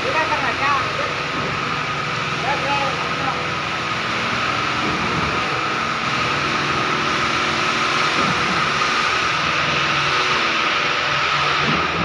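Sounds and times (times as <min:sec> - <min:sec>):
pump engine droning: 0:00.0 - 0:12.0
steady high whine: 0:00.0 - 0:12.0.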